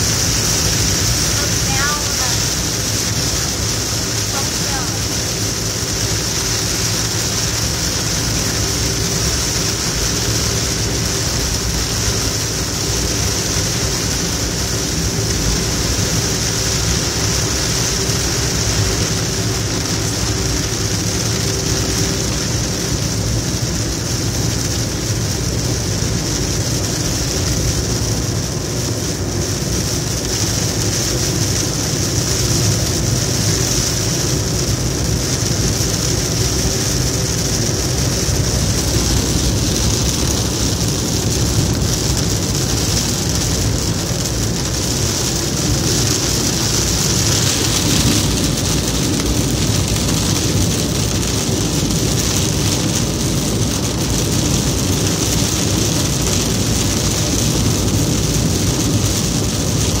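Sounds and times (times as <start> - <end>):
engine drone: 0.0 - 60.0
tyres hissing on wet road: 0.0 - 60.0.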